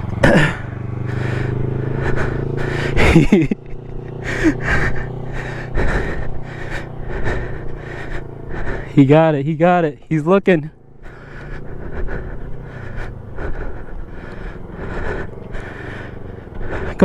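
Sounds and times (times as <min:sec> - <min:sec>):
motorcycle engine passing: 0:00.0 - 0:17.0.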